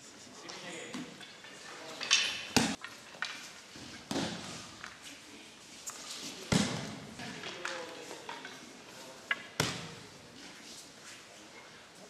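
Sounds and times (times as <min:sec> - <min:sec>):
rustling and brushing: 0:00.0 - 0:12.0.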